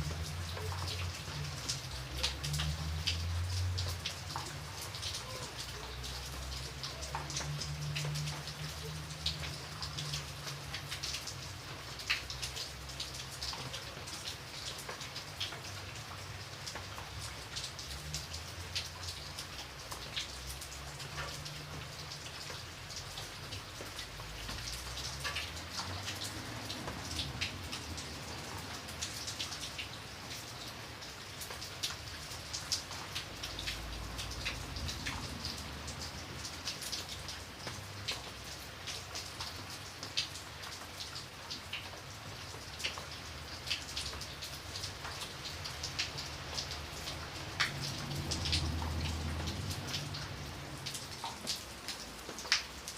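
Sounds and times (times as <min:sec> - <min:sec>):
raindrops pattering on a surface: 0:00.0 - 0:52.9
steady rain: 0:00.0 - 0:52.9.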